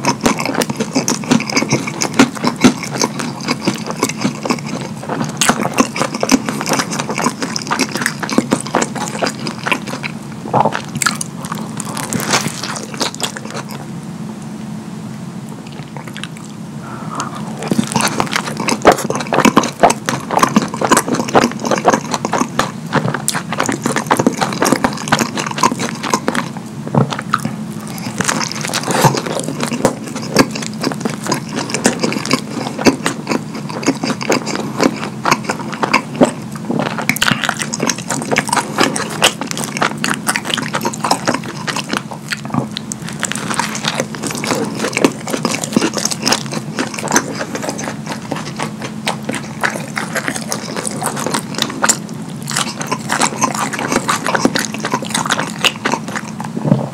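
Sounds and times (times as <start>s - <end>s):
smacking and squelching mouth noises: 0.0s - 13.9s, 15.5s - 56.9s
man chewing food: 0.0s - 56.9s.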